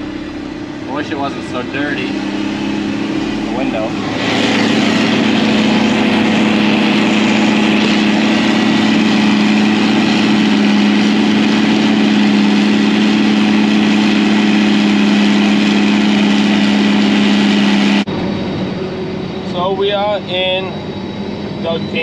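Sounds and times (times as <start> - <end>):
tractor engine drone: 0.0 - 22.0.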